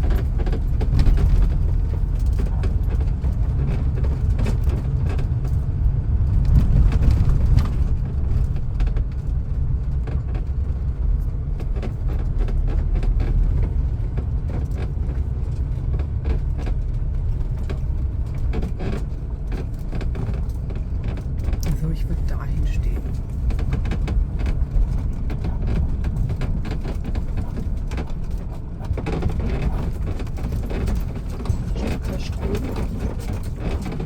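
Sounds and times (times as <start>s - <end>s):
small rattles and clicks: 0.0s - 34.0s
vehicle engine and road rumble: 0.0s - 34.0s.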